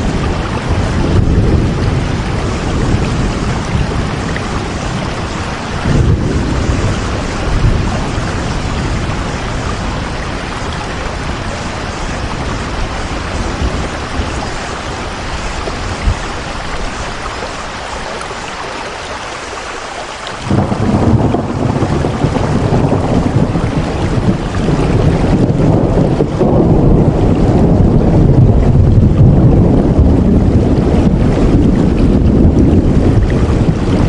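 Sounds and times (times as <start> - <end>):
deep rumbling: 0.0 - 16.3, 20.4 - 34.0
heavy rain: 0.0 - 34.0.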